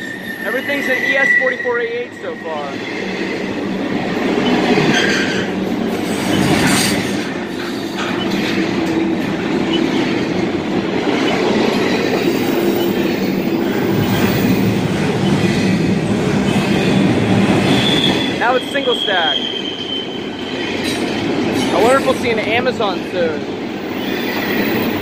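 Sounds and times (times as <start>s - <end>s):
steel wheels rumbling on rail: 0.0s - 25.0s.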